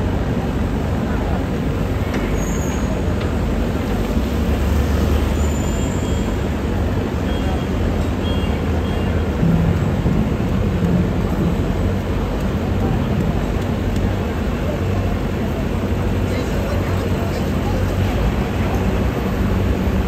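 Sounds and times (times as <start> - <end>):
low rumble of engines: 0.0 - 20.0.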